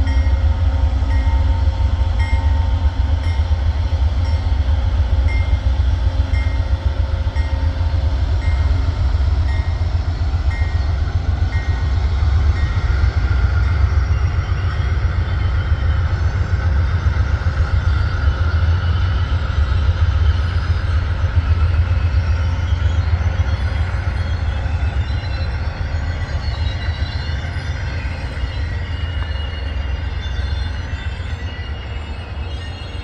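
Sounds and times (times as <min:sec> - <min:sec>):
train low rumble: 0:00.0 - 0:33.0.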